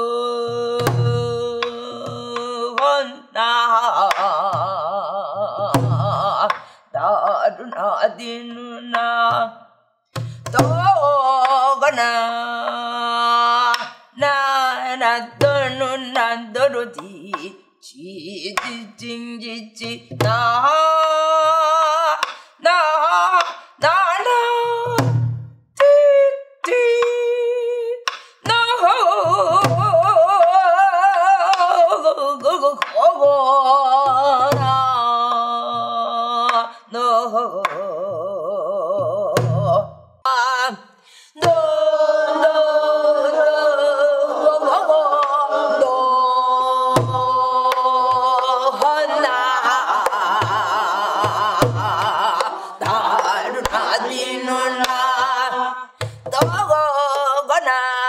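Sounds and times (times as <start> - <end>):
woman singing wordless melody: 0.0 - 58.0.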